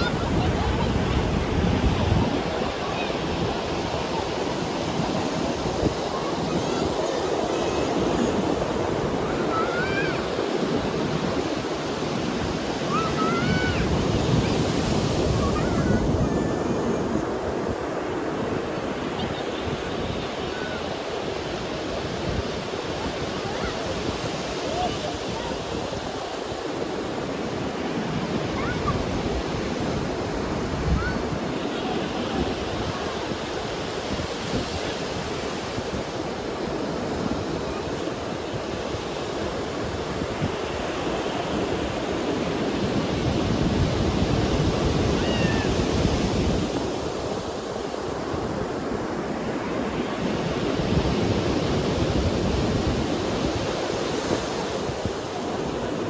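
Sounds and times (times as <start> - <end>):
ocean waves breaking on beach: 0.0 - 56.0
wind gusts on microphone: 0.0 - 56.0.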